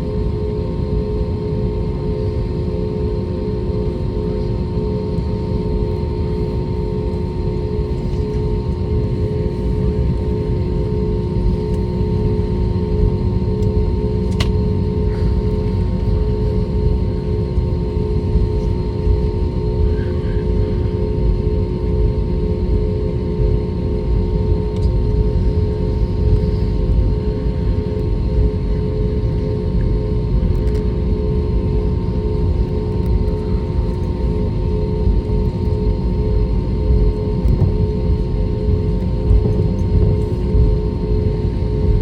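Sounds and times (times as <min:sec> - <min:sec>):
aircraft cabin engine rumble: 0:00.0 - 0:42.0.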